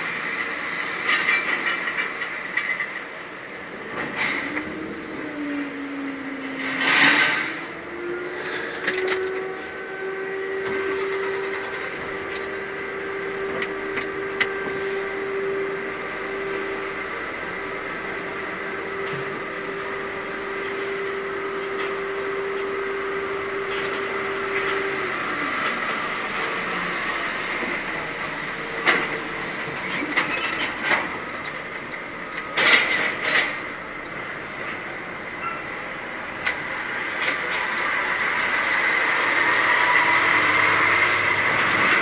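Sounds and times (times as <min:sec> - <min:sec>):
lorry engine hum and whine: 0:00.0 - 0:42.0.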